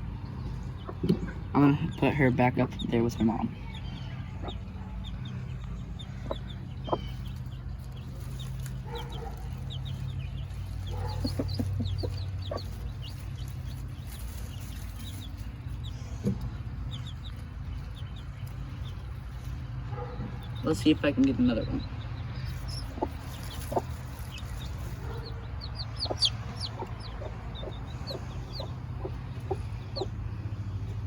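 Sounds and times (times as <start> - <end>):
chicks peeping: 0.0 - 31.0
steady low hum: 0.0 - 31.0
hen clucking: 0.7 - 17.6, 22.4 - 30.9.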